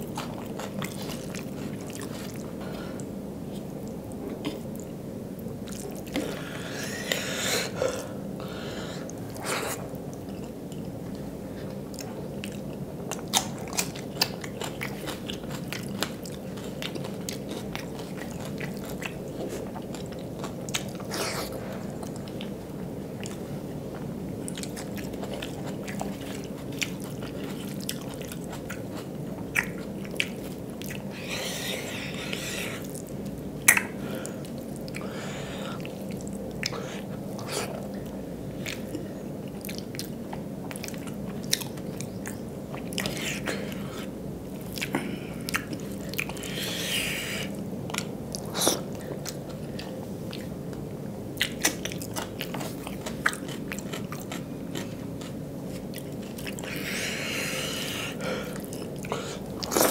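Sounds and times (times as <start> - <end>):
close chewing with mouth clicks: 0.0 - 4.9, 9.0 - 59.9.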